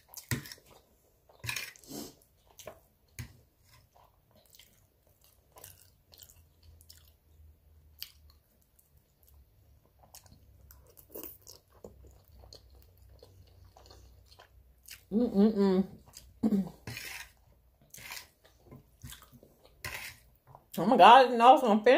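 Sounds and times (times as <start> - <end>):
chewing spaghetti: 0.0 - 20.8.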